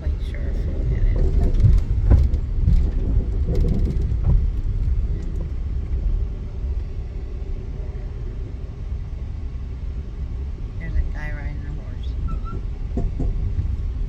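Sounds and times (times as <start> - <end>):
train rumbling inside car: 0.0 - 14.0.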